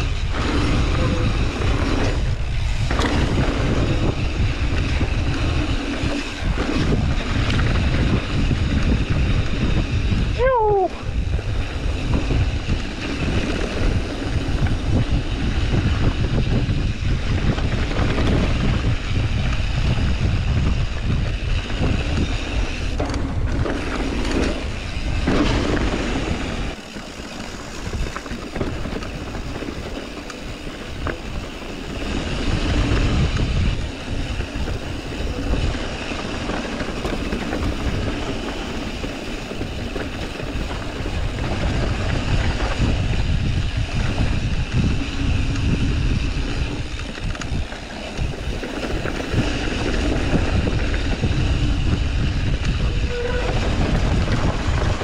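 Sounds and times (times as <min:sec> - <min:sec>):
low rumble of bike ride: 0:00.0 - 0:55.0
wind buffeting microphone: 0:00.0 - 0:55.0.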